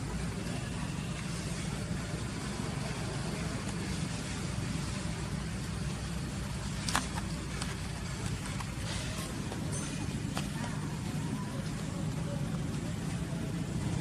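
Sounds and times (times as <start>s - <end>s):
outdoor low rumble: 0.0s - 14.0s.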